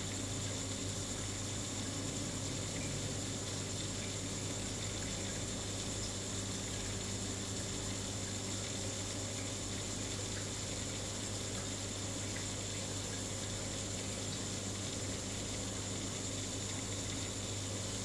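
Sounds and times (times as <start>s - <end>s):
aquarium pump hum: 0.0s - 18.0s.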